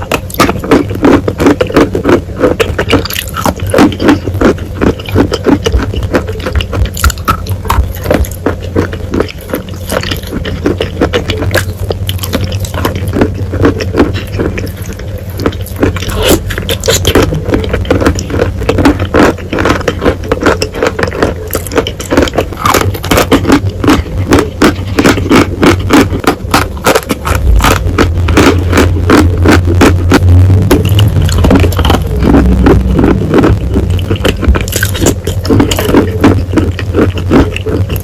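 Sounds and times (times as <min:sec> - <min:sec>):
crunching and chewing: 0:00.0 - 0:38.0
low hum: 0:00.0 - 0:38.0.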